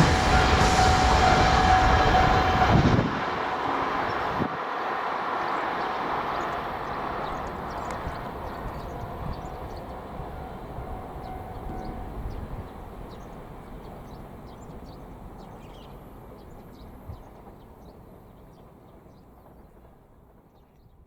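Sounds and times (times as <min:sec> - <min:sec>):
electric train running on track: 0:00.0 - 0:21.0.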